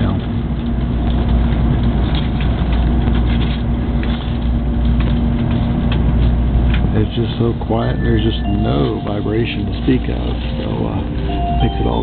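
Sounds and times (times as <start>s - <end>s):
train running rumble and hum: 0.0s - 12.0s.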